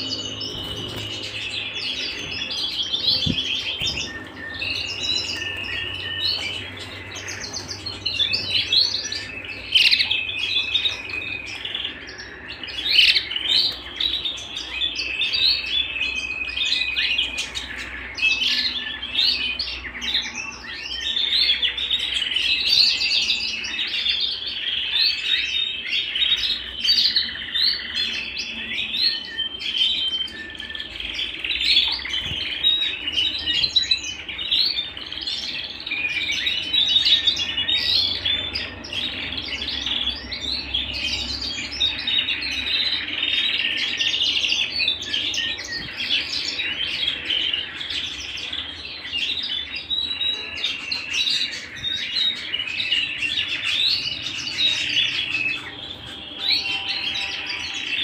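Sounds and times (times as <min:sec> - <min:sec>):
canaries singing: 0:00.0 - 0:58.0.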